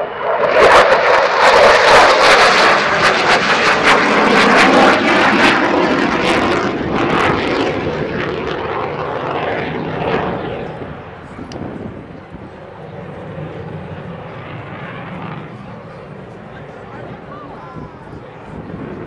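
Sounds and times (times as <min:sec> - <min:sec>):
jet engine rush with crackling: 0:00.0 - 0:19.0.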